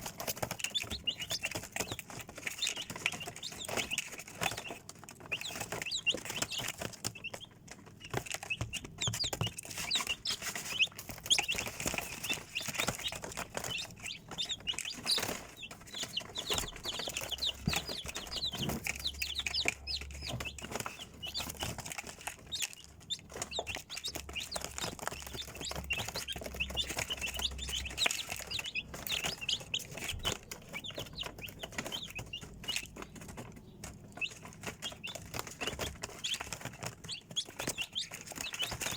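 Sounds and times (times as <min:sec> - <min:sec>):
chicks peeping: 0:00.0 - 0:38.9
clicks and rustling: 0:00.0 - 0:38.9.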